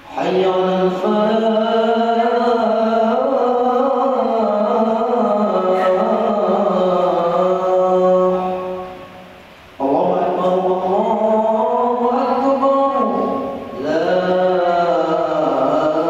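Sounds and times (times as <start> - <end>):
person chanting: 0.1 - 9.0, 9.8 - 16.0.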